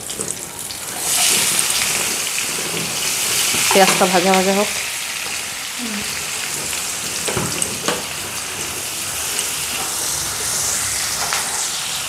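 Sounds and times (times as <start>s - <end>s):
spatula stirring in wok: 0.0s - 11.7s
onions sizzling in hot oil: 0.0s - 12.0s.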